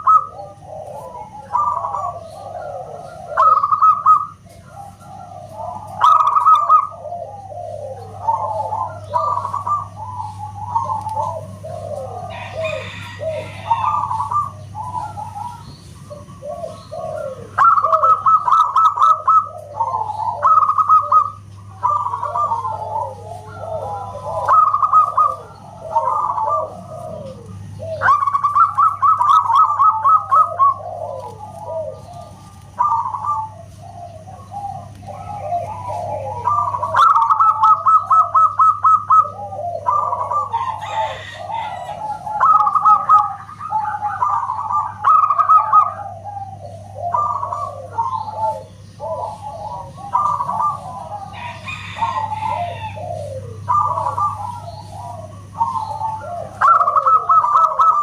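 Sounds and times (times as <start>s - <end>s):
doves cooing: 0.0s - 58.0s
steady low hum: 0.0s - 58.0s.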